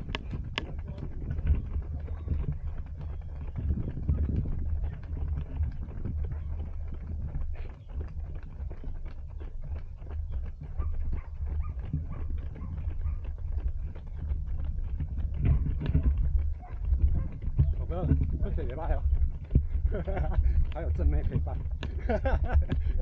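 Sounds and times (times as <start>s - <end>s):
low rumble: 0.0s - 23.0s
running footsteps: 0.0s - 23.0s.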